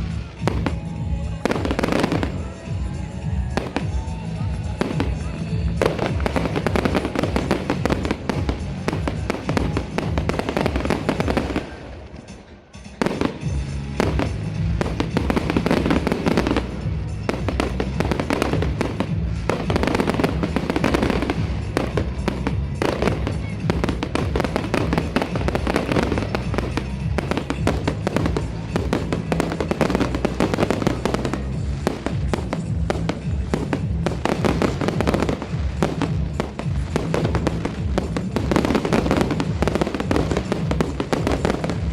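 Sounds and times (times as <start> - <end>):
fireworks bangs and crackles: 0.0 - 41.9
music: 0.0 - 41.9.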